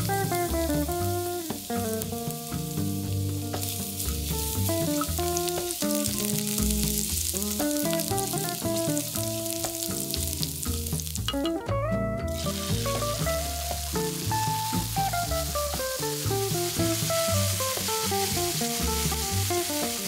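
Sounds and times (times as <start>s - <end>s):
garlic sizzling in oil: 0.0s - 11.7s, 12.3s - 20.0s
tomatoes frying: 0.0s - 20.0s.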